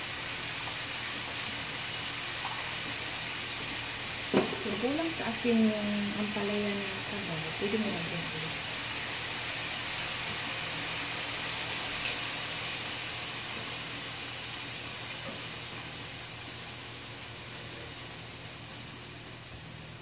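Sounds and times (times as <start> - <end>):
food sizzling in pan: 0.0 - 20.0.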